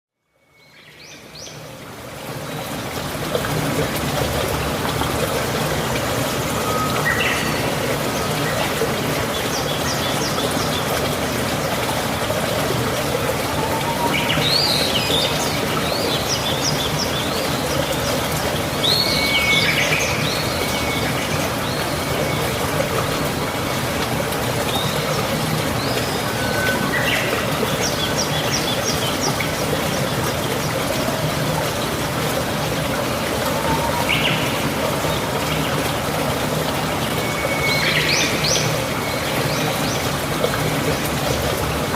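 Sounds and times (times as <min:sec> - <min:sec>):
running rainwater: 0:00.2 - 0:41.9.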